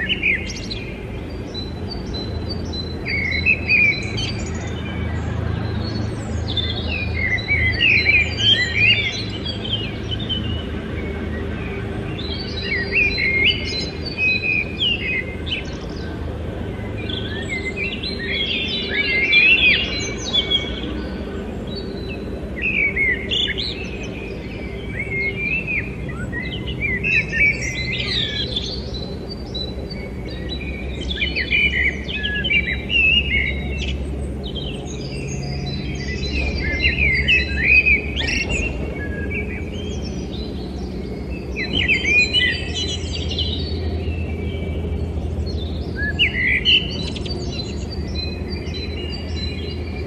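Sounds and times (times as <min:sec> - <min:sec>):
birds chirping and twittering: 0:00.0 - 0:50.0
steady low hum: 0:00.0 - 0:50.0.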